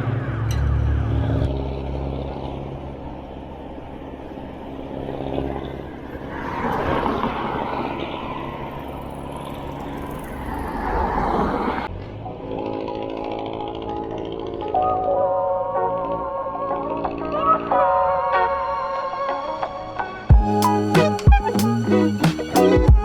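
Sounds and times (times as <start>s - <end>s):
motor vehicles passing close: 0.0s - 19.9s
road traffic: 0.0s - 23.0s.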